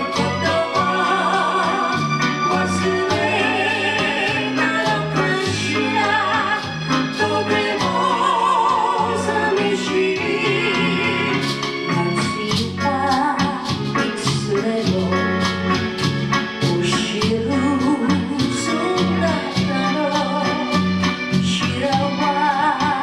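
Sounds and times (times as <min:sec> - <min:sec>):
person singing: 0:00.0 - 0:15.5, 0:16.6 - 0:20.8, 0:21.4 - 0:23.0
low bass notes: 0:00.0 - 0:23.0
strummed guitars: 0:00.0 - 0:23.0.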